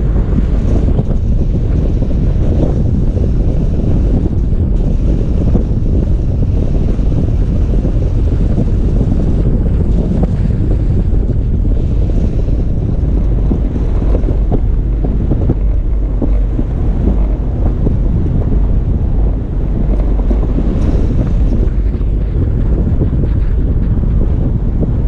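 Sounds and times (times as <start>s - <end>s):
vehicle road rumble: 0.0s - 25.0s.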